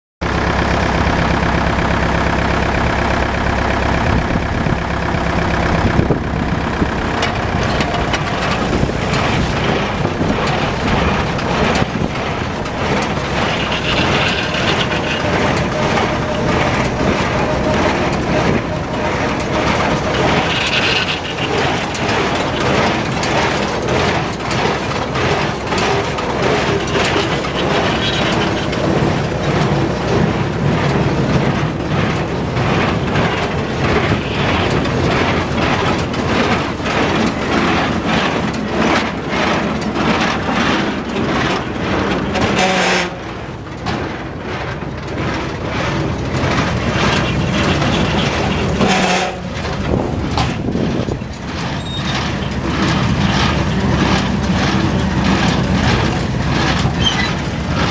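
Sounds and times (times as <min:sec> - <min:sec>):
tractor engine running: 0:00.2 - 0:57.9.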